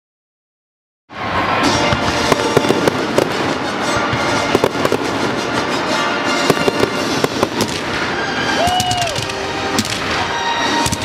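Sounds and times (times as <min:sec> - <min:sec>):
fireworks bursting and crackling: 0:01.1 - 0:11.0
music: 0:01.1 - 0:11.0.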